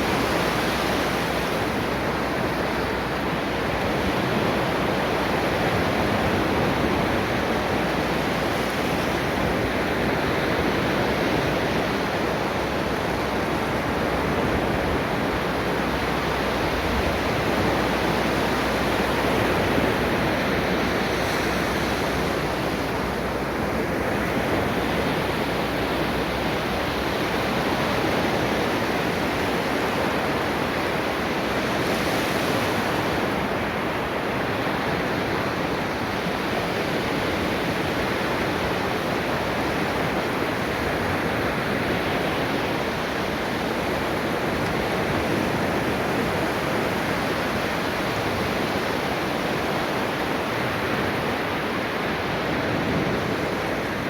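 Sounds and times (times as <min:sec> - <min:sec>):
ocean waves on a beach: 0:00.0 - 0:54.0.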